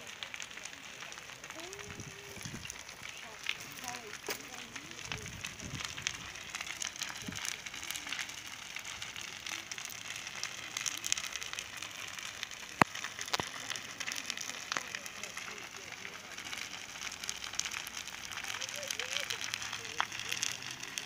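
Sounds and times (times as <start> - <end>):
burning wood crackling: 0.0 - 21.0
sharp loud pops of fire: 0.0 - 21.0.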